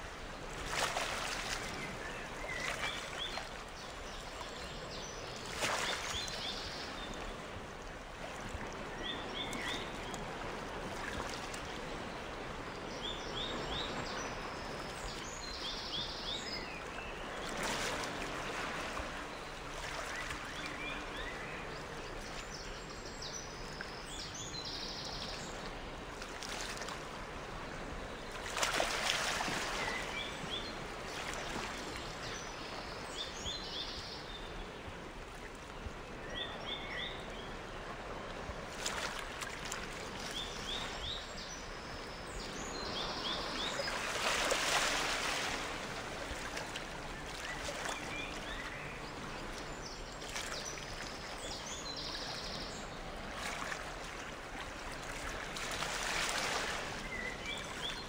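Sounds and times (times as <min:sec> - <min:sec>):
gurgling stream: 0:00.0 - 0:58.0.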